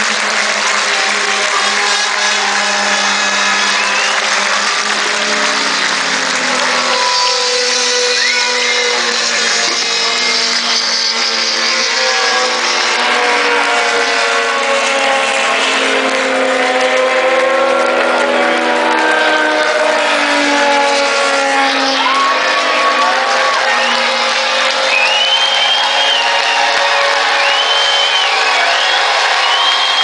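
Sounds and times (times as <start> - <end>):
distant racing car engines: 0.0 - 30.0.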